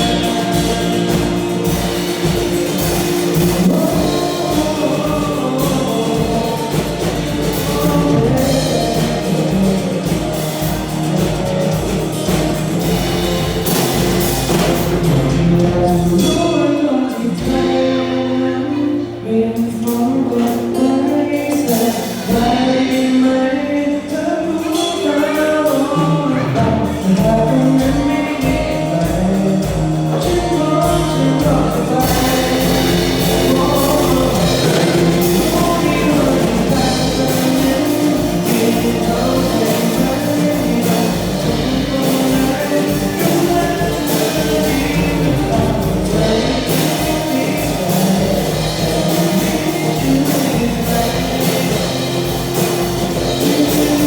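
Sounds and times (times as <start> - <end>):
drums: 0.0 - 54.0
guitar: 0.0 - 54.0
person singing: 0.0 - 54.0.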